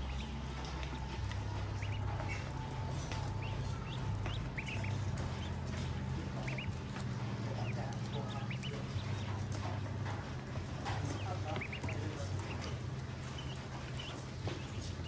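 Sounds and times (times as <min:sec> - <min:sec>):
ducklings peeping: 0:00.0 - 0:15.0
steady low hum: 0:00.0 - 0:15.0.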